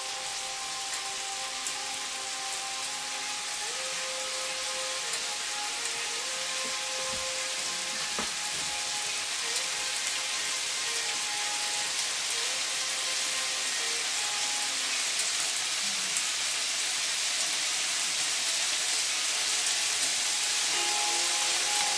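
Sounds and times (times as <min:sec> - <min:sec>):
meat sizzling in a pan: 0:00.0 - 0:21.9.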